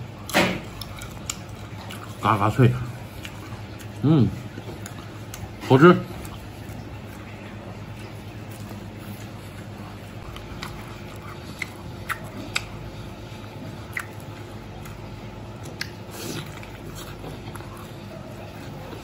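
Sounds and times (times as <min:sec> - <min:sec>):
steady low hum: 0:00.0 - 0:19.0
chewing crispy chicken: 0:00.1 - 0:19.0.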